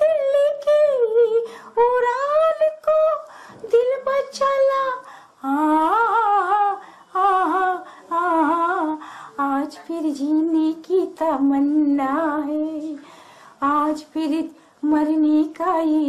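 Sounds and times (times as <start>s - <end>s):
woman singing unaccompanied: 0.0s - 13.0s, 13.6s - 16.0s.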